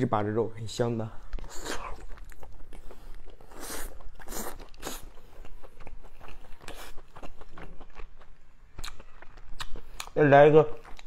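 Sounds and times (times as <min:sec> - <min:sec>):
person chewing and biting food: 0:01.2 - 0:11.0.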